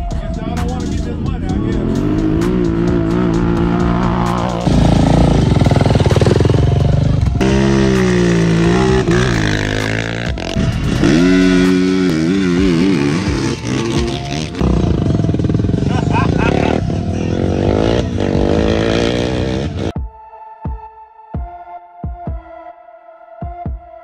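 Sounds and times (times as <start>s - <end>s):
engines revving and accelerating: 0.6s - 19.9s.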